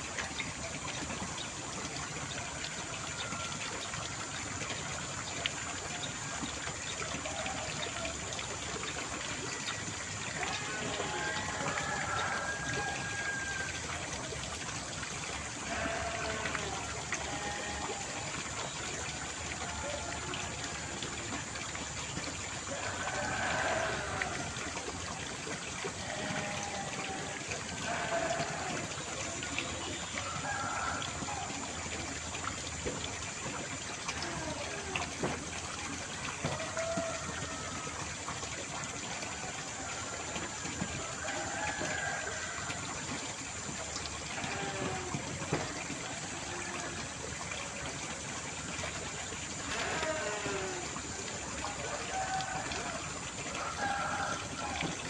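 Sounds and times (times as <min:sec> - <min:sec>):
running water trickling: 0:00.0 - 0:55.0.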